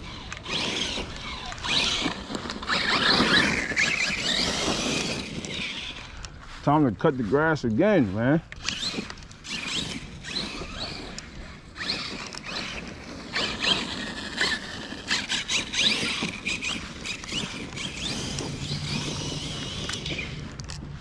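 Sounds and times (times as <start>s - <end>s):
electric motor whining: 0.0s - 6.3s, 8.5s - 21.0s.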